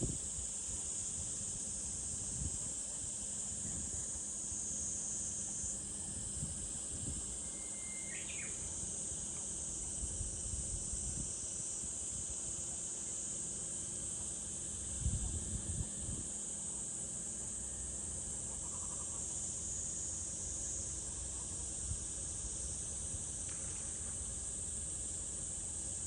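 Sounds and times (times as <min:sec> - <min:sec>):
cicadas singing: 0:00.0 - 0:26.0.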